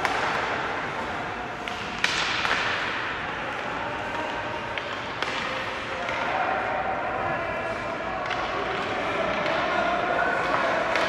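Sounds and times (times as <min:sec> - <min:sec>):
hockey stick hitting puck: 0:00.0 - 0:06.5, 0:07.7 - 0:11.0.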